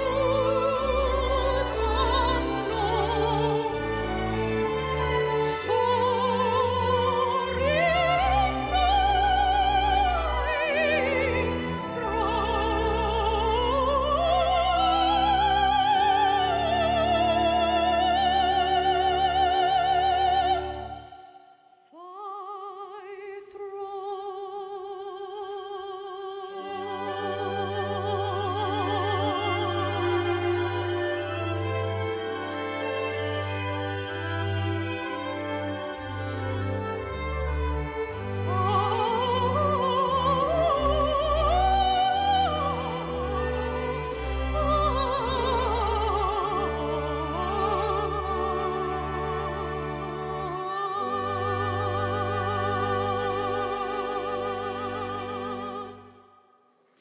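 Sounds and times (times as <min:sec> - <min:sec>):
orchestral accompaniment: 0:00.0 - 0:21.3, 0:26.6 - 0:56.2.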